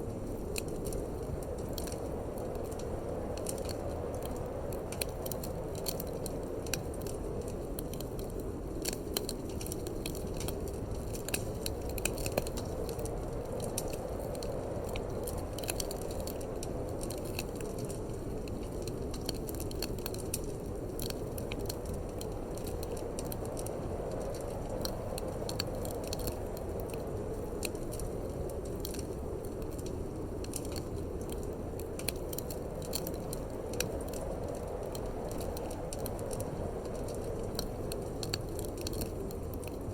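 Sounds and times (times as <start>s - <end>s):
low rush of wind: 0.0s - 39.9s
wood fire crackling and popping: 0.0s - 39.9s.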